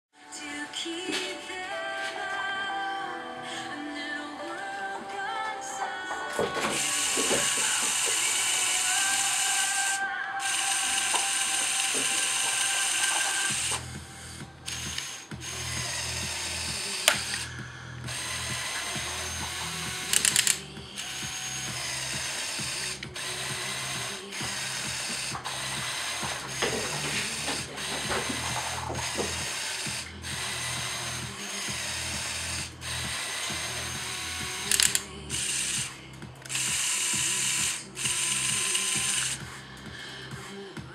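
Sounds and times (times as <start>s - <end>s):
electric motor whirring through gears: 6.6s - 40.9s.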